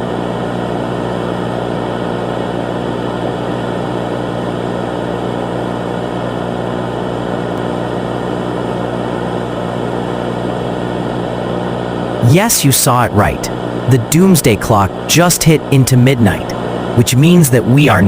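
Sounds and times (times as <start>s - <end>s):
steady droning hum with hiss: 0.0s - 18.0s.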